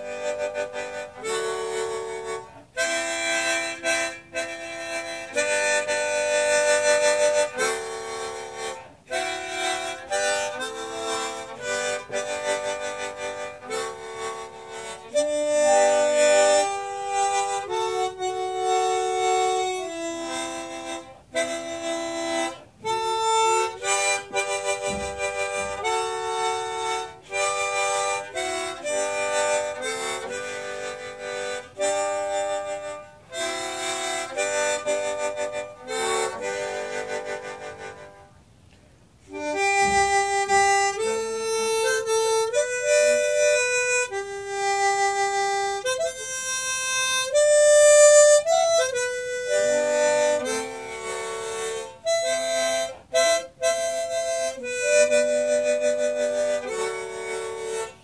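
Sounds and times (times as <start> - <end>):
instrumental hymn on reed instrument: 0.0 - 38.6, 39.3 - 58.0.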